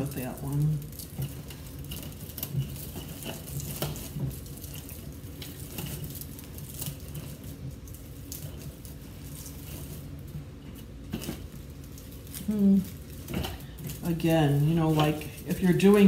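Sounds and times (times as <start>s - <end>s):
artificial branches rustling: 0.0s - 16.0s
twigs scratching and snapping: 0.0s - 16.0s.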